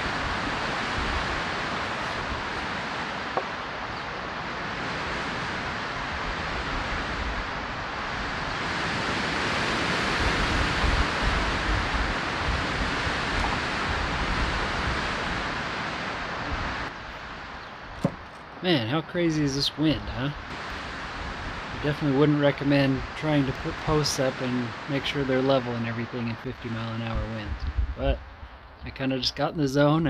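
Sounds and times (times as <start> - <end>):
strong wind buffeting microphone: 0.0 - 29.6.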